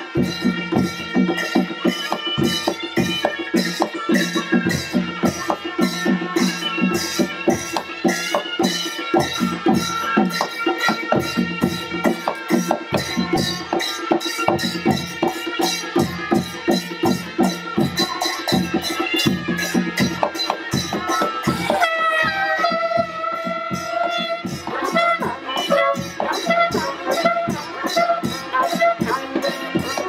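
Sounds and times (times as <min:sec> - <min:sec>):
drums beating: 0:00.0 - 0:30.0
wind instrument melody: 0:00.0 - 0:30.0.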